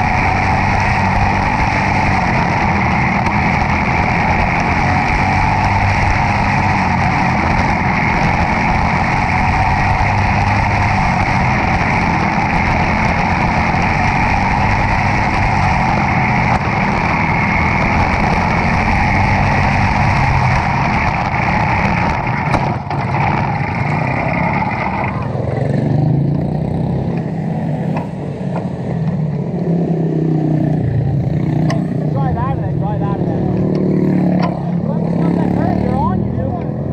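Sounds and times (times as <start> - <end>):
kart engine running hard: 0.0 - 36.9.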